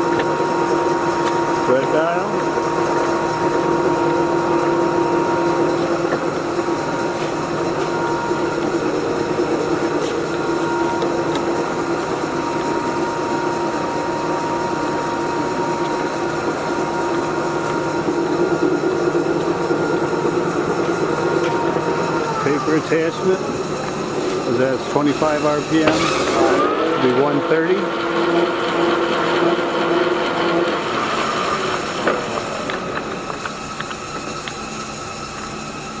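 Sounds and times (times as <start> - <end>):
lathe running with whine: 0.0 - 36.0.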